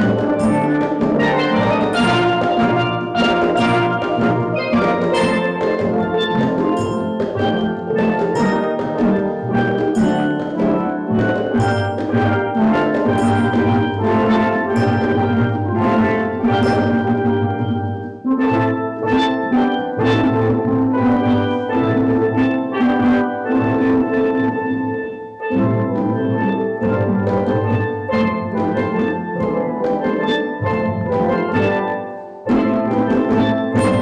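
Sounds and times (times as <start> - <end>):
steel drum band playing: 0.0 - 34.0.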